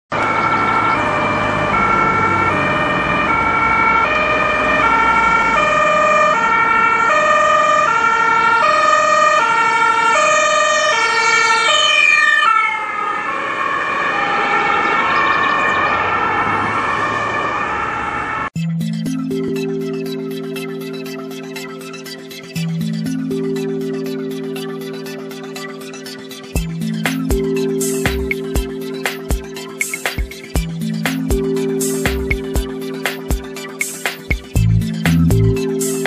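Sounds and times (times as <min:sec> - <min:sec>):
traffic noise: 0:00.1 - 0:10.2, 0:10.8 - 0:18.6, 0:23.1 - 0:36.0
two-tone ambulance siren: 0:00.1 - 0:36.0.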